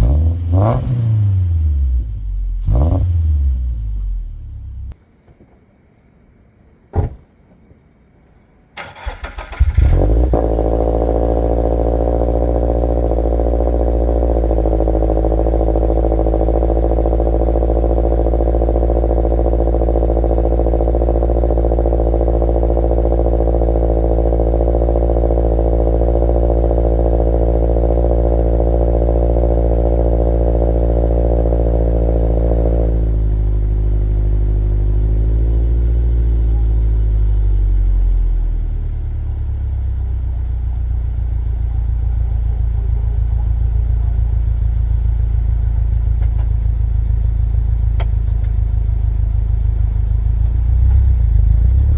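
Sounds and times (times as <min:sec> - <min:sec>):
car engine starting and idling: 0:00.0 - 0:05.0, 0:08.8 - 0:51.9.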